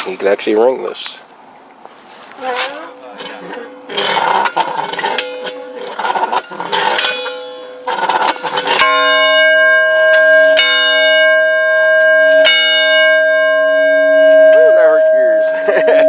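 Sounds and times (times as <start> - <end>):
large bell ringing: 2.5 - 16.0.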